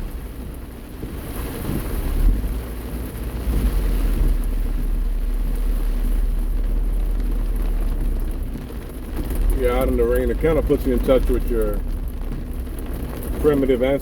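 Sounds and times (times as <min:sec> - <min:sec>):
car engine and tyres rumbling: 0:00.0 - 0:14.0
rain hissing: 0:00.0 - 0:14.0.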